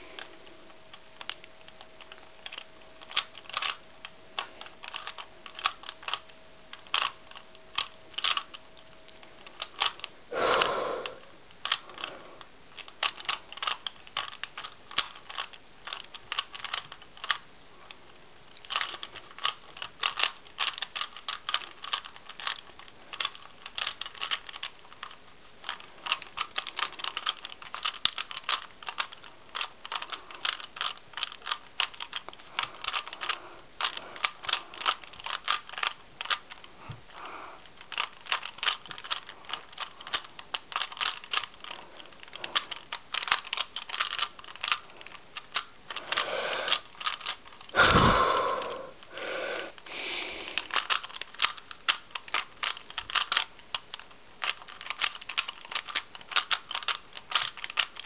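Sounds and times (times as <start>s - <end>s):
puzzle cube plastic clicking: 0.0s - 58.0s.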